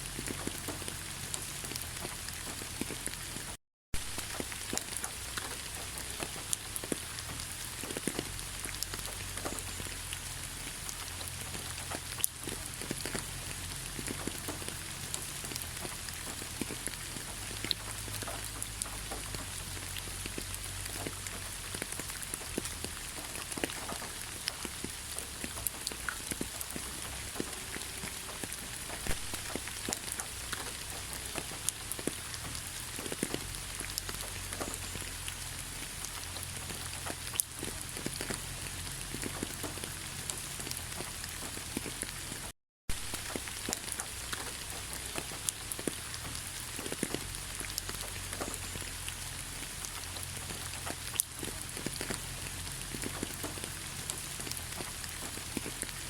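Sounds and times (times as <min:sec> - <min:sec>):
raindrops pattering: 0:00.0 - 0:56.0
steady rain hiss: 0:00.0 - 0:56.0.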